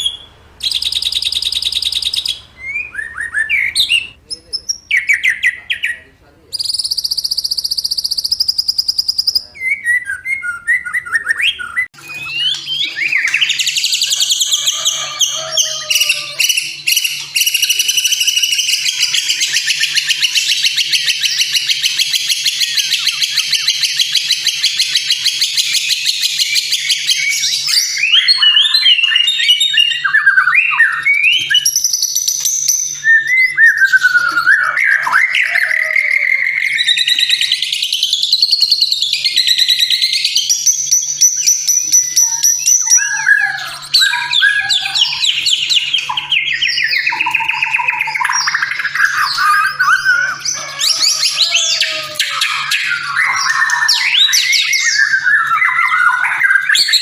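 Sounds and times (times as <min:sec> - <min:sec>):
bird chattering trill: 0:00.0 - 0:57.0
bird whistled song: 0:00.0 - 0:57.0.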